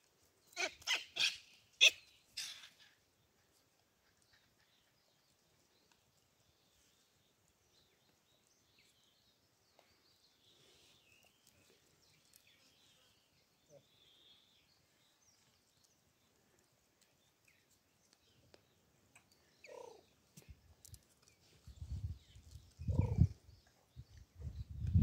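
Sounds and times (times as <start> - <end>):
faint bird chirps: 0.5 - 20.6, 21.2 - 25.0.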